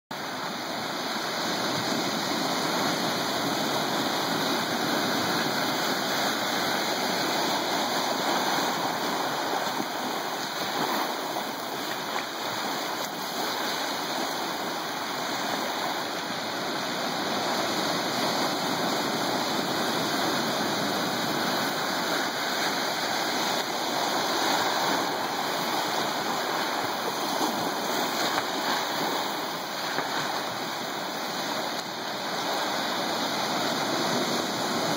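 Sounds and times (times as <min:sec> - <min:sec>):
surf washing over rocks: 0:00.1 - 0:34.9.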